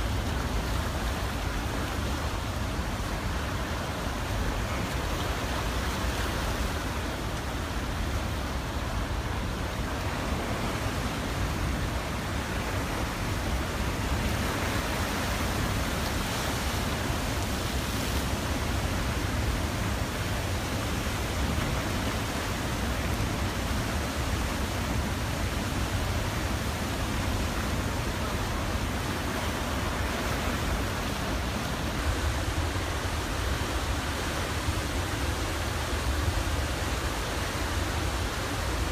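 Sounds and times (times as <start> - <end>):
floodwater rushing and churning: 0.0 - 38.9.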